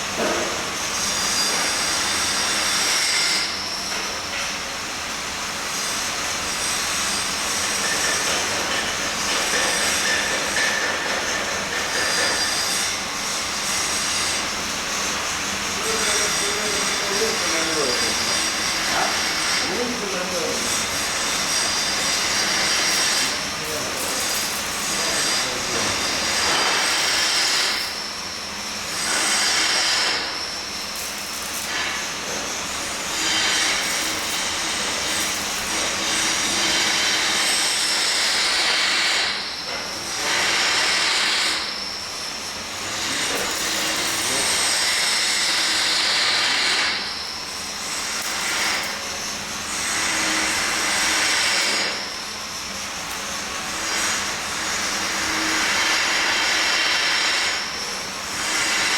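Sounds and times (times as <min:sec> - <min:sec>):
welding hiss: 0:00.0 - 0:58.9.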